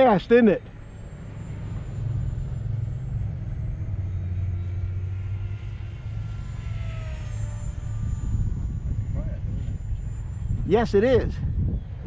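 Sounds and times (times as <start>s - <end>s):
model airplane motor whine: 0.0s - 12.0s
steady low rumble: 0.0s - 12.0s.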